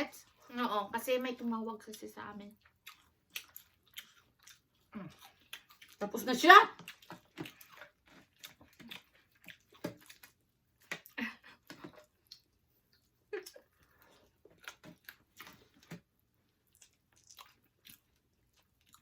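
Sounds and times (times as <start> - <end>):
chewing fried chicken: 1.3 - 19.0.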